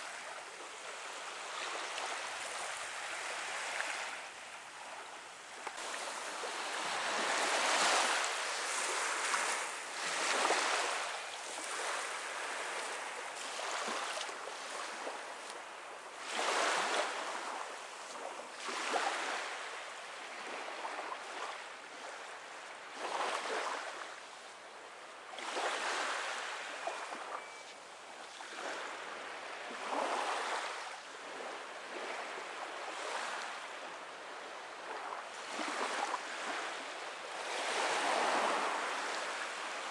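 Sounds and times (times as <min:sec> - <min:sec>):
small waves lapping on sand: 0:00.0 - 0:39.9.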